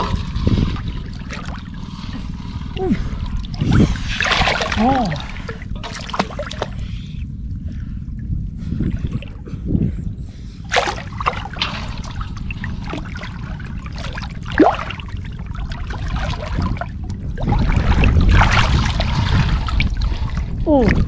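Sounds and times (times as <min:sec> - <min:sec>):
steady low rumble: 0:00.0 - 0:21.0
water splashing and sloshing: 0:00.0 - 0:21.0.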